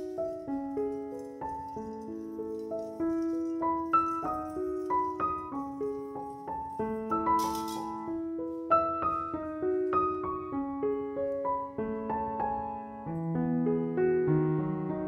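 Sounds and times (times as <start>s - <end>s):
calm piano melody: 0.0s - 15.0s.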